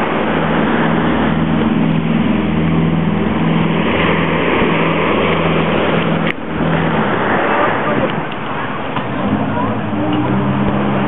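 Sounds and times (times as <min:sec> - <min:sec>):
engine running steadily: 0:00.0 - 0:11.0
surf breaking on beach: 0:00.0 - 0:11.0.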